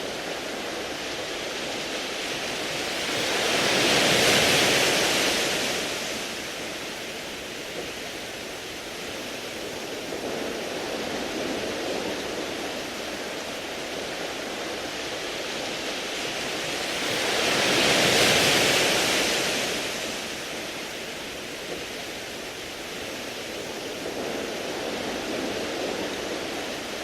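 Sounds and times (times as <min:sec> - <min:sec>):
waves washing over pebbles: 0:00.0 - 0:27.0.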